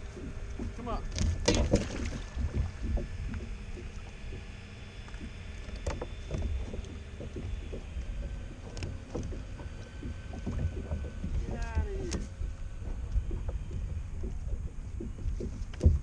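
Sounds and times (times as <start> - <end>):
water rumbling: 0.0 - 16.0
wind: 0.0 - 16.0.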